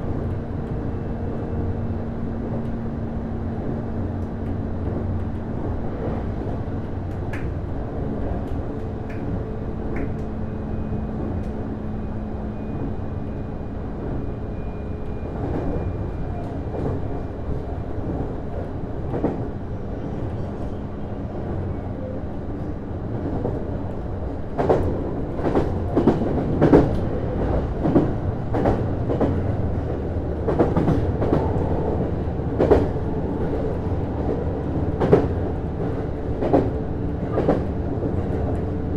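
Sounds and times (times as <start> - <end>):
railcar rumble: 0.0 - 38.9.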